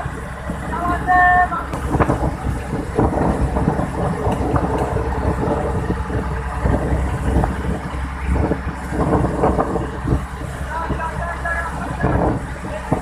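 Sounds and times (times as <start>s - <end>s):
boat engine droning: 0.0s - 13.0s
water washing against hull: 0.0s - 13.0s.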